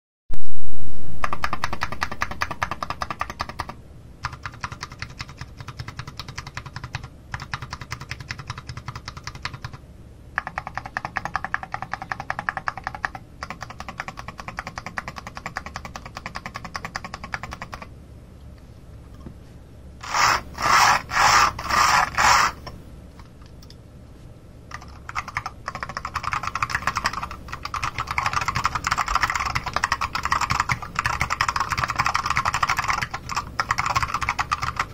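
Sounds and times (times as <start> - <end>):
rapid mechanical keyboard clicks: 1.2 - 9.8, 10.4 - 17.9, 20.0 - 23.8, 24.7 - 34.9.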